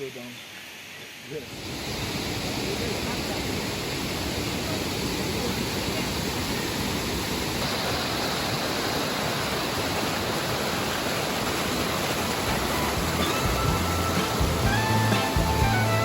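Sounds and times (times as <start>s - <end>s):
rushing water: 0.8s - 16.0s.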